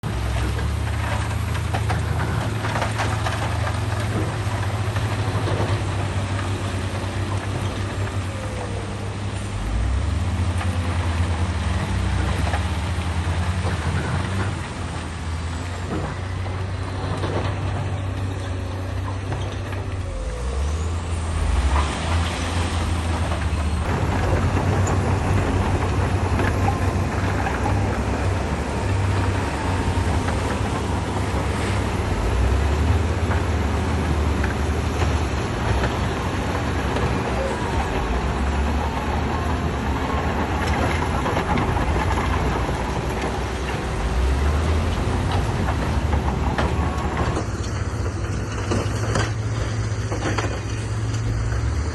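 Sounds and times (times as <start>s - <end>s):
diesel machinery engine drone: 0.0s - 51.9s.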